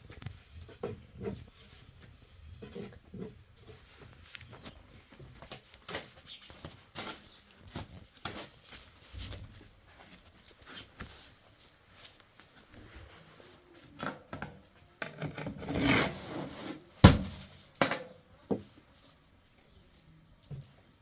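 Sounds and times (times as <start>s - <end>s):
rubbing and scraping handling noise: 0.0s - 19.2s.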